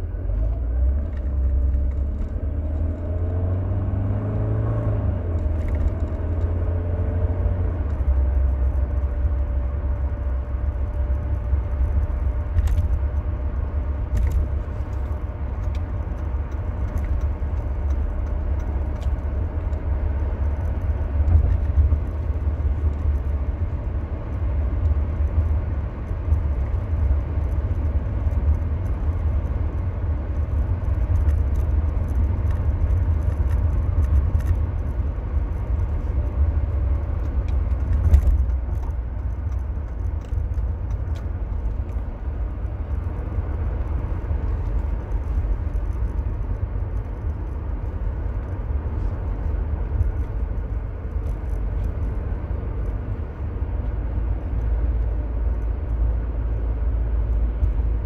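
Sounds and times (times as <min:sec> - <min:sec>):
car engine and tyre rumble: 0:00.0 - 0:58.0
small clicks and rattles: 0:07.8 - 0:58.0.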